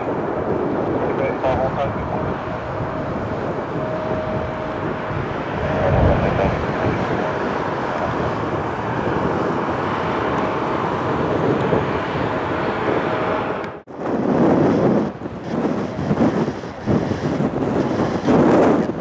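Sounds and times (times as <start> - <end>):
aircraft engines droning overhead: 0.0 - 19.0
wind buffeting microphone: 0.0 - 19.0.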